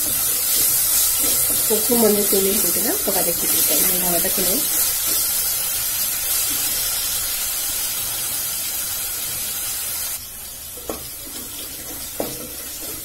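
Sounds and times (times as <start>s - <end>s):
onion and tomato frying in oil: 0.0s - 13.0s.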